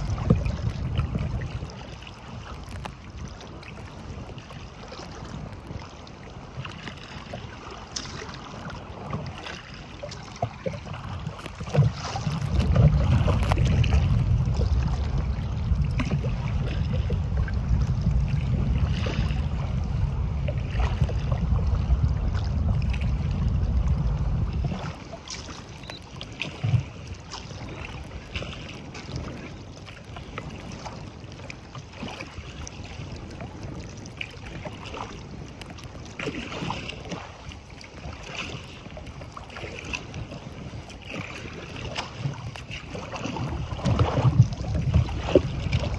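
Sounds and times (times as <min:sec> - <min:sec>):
water slapping kayak hull: 0:00.0 - 0:45.9
wind rumble on microphone: 0:00.0 - 0:45.9.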